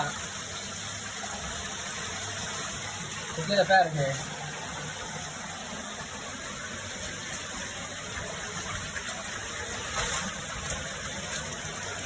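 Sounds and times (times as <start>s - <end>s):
water rushing through a cave: 0.0s - 12.0s.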